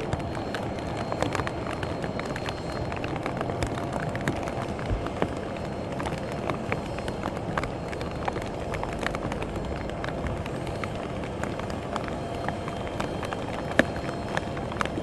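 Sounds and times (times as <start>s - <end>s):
raindrops striking microphone: 0.0s - 15.0s.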